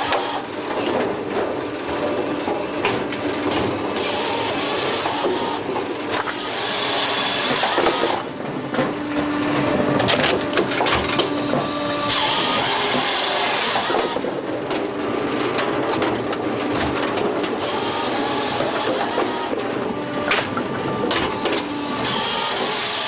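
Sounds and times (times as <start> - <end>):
firewood processor clatter: 0.0 - 23.0.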